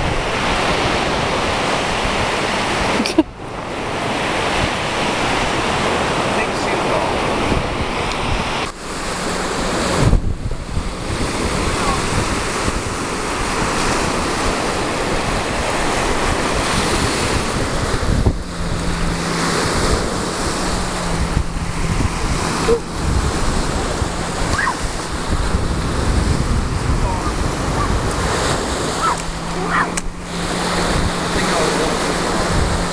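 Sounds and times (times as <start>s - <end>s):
small waves breaking on beach: 0.0s - 32.9s
wind rumbling on microphone: 0.0s - 32.9s.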